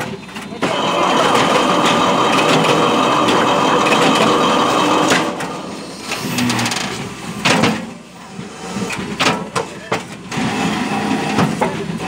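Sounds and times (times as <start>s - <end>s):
hydraulic press rattling: 0.1s - 10.5s.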